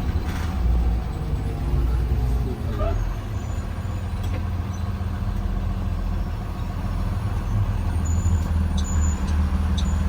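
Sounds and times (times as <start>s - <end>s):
bus engine droning: 0.0s - 10.0s.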